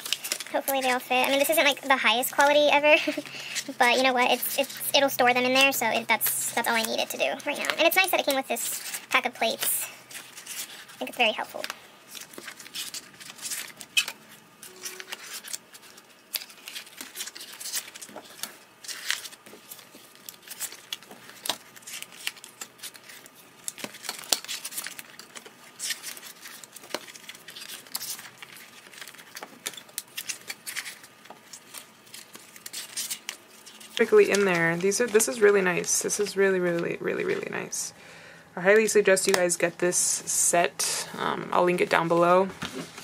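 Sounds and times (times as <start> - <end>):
plastic packaging crinkling: 0.0 - 37.8.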